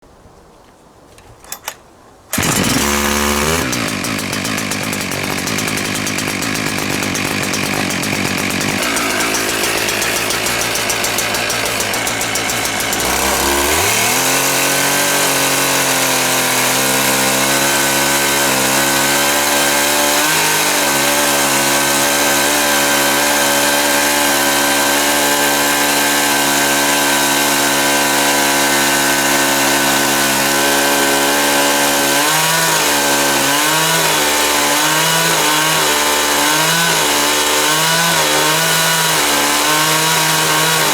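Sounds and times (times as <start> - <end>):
chainsaw cutting log: 2.3 - 40.9.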